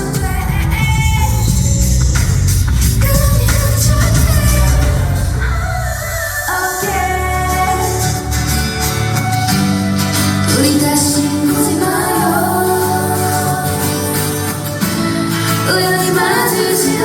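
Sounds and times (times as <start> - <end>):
backing track: 0.0 - 17.0
women singing pop song: 0.0 - 17.0.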